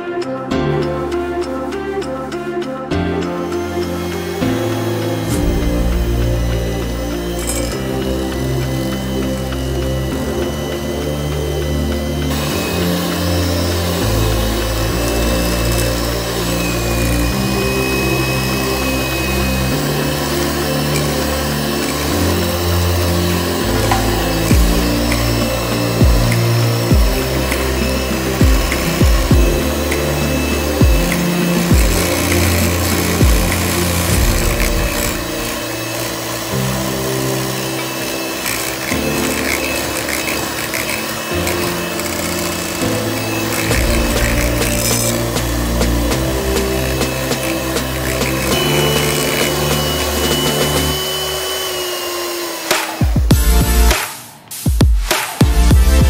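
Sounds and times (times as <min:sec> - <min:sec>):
beaters churning through batter: 0:00.0 - 0:54.1
electric mixer running: 0:02.7 - 0:54.4.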